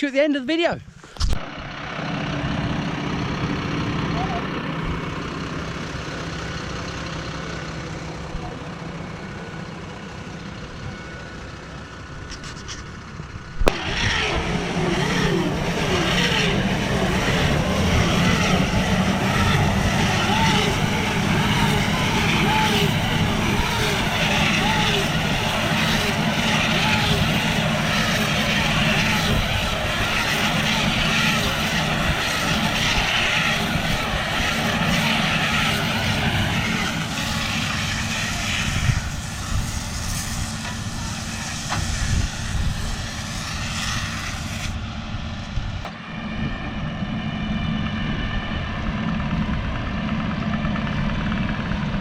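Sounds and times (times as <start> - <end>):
tractor engine running: 0.5 - 46.1, 47.8 - 52.0
wavering whine: 0.9 - 52.0.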